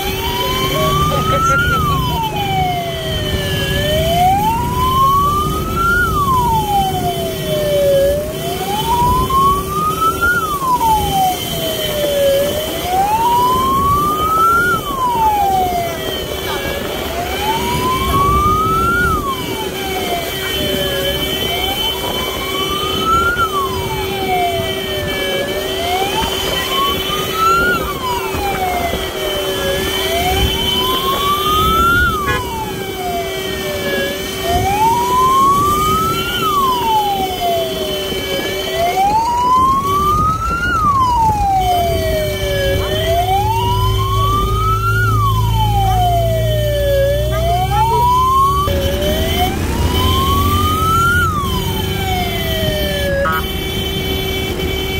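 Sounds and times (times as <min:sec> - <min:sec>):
motorcycle engine and road noise: 0:00.0 - 0:54.9
wail siren: 0:00.0 - 0:54.9.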